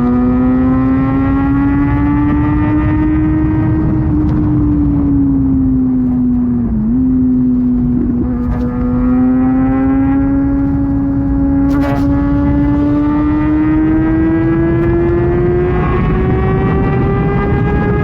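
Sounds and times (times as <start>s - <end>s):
low wind rush: 0.0s - 18.0s
motorcycle engine accelerating: 0.0s - 18.0s.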